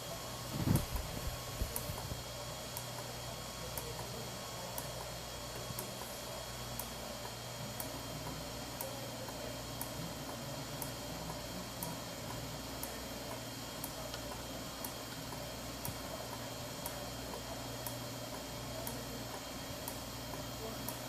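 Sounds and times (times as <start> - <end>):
printer hum with high whine: 0.0 - 21.0.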